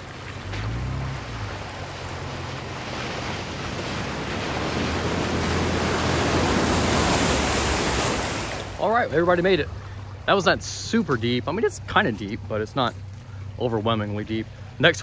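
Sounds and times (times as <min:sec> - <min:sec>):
truck engine droning: 0:00.0 - 0:15.0
water rushing and splashing: 0:00.0 - 0:15.0.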